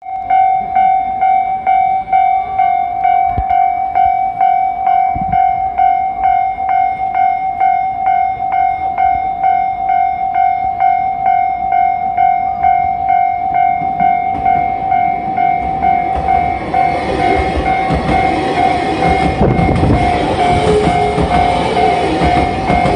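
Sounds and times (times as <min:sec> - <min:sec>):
approaching train noise: 0:00.0 - 0:22.9
level crossing bell ringing: 0:00.0 - 0:22.9.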